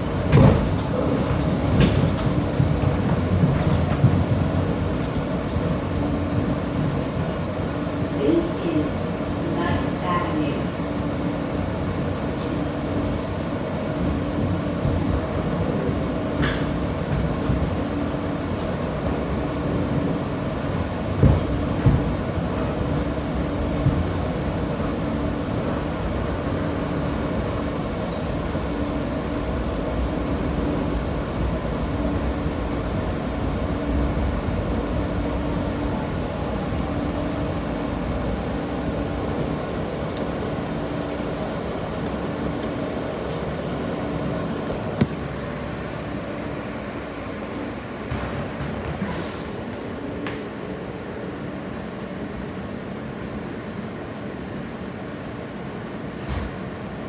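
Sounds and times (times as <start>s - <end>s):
subway car rumble: 0.0s - 57.0s.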